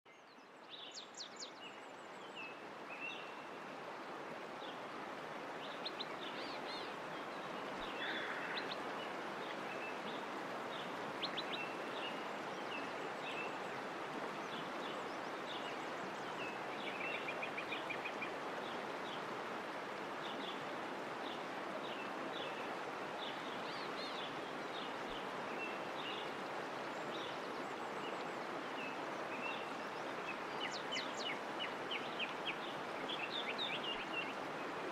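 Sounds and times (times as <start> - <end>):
running water rushing: 0.2 - 34.9.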